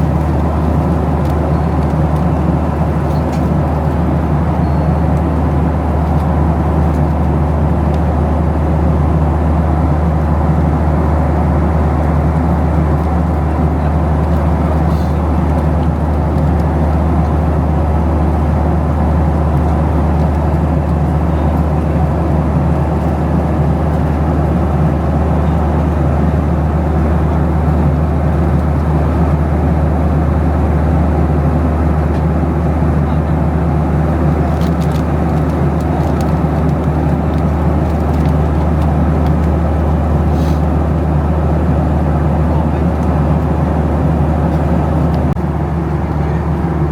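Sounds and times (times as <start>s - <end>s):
jet engine hum: 0.0s - 46.9s.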